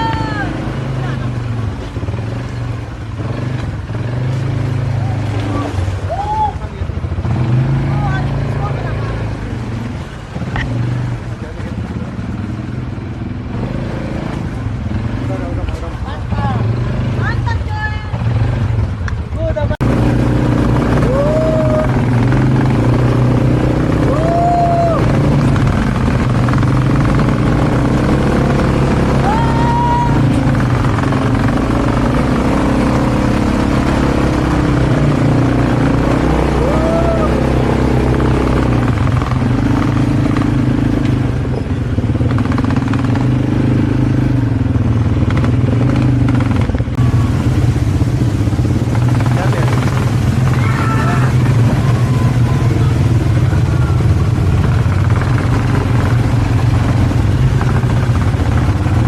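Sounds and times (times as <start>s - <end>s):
small vehicle engine droning: 0.0s - 59.0s.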